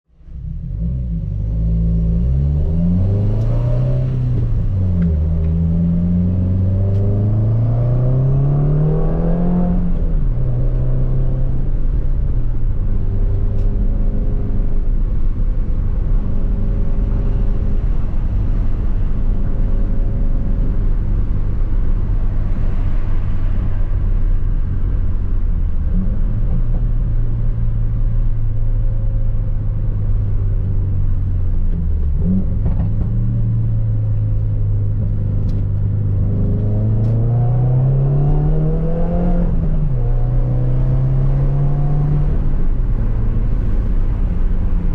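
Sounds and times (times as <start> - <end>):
car engine accelerating: 0.2 - 44.9.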